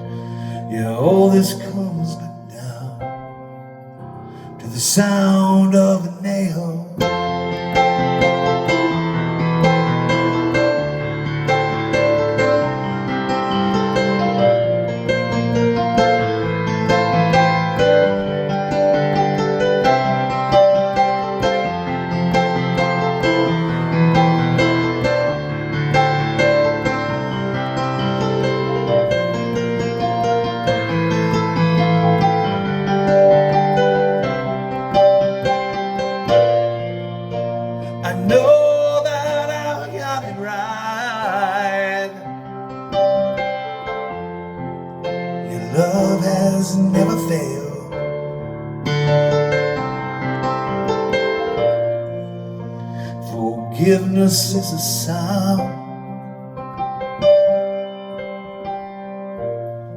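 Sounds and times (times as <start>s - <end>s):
piano chords and melody: 0.0s - 59.9s.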